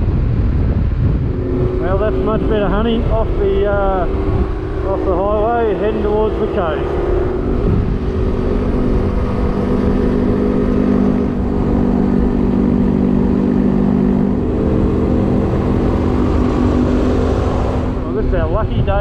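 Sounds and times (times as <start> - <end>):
motorcycle engine cruising: 0.0 - 19.0
wind rumble on microphone: 0.0 - 19.0.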